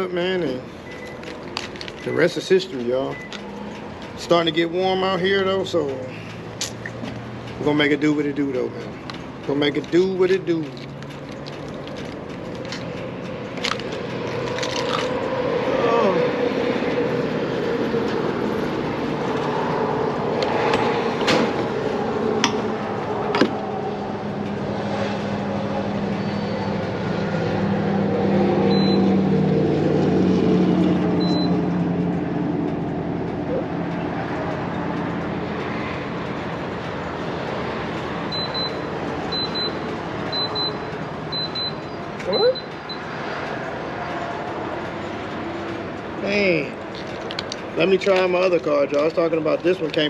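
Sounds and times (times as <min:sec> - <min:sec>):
traffic hum: 0:00.0 - 0:50.0
vehicle engine running: 0:00.0 - 0:50.0.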